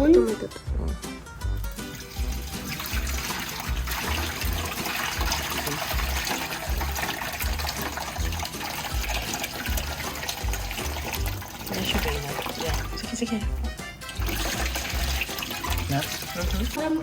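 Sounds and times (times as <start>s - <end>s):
music with low beat: 0.0s - 16.9s
water splashing and trickling: 1.4s - 17.0s.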